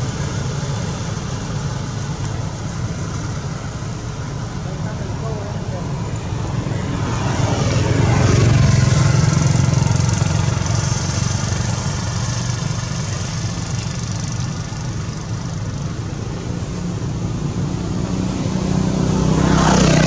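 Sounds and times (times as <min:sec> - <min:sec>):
vehicle engine rumble passing: 0:00.0 - 0:20.0.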